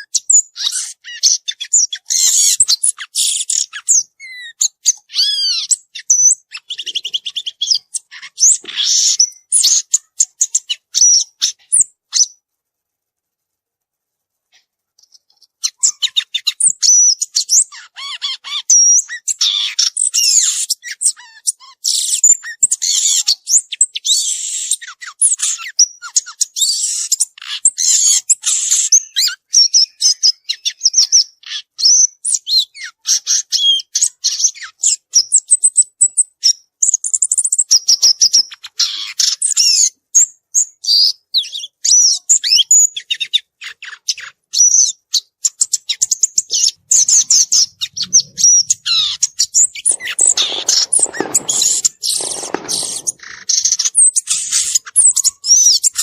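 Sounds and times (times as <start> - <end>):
bird singing high chirps and trills: 0.0 - 12.4, 15.0 - 36.2, 37.0 - 56.0.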